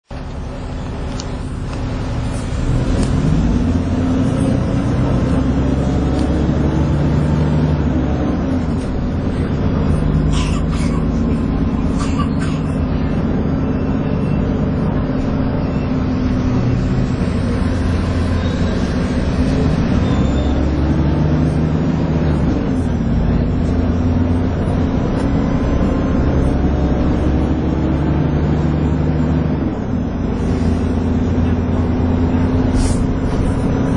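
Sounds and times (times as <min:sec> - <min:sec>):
bus engine whining: 0:00.0 - 0:33.9.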